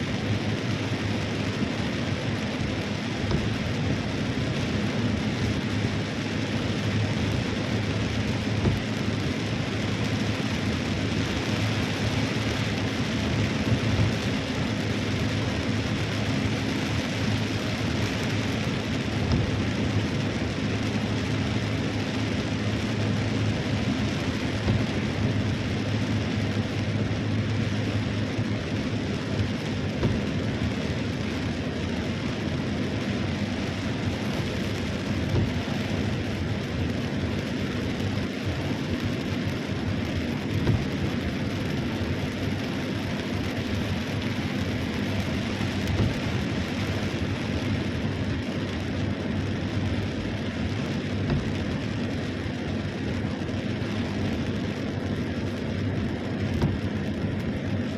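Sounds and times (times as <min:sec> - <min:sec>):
heavy rain falling: 0:00.0 - 0:57.9
low rumble: 0:00.0 - 0:57.9.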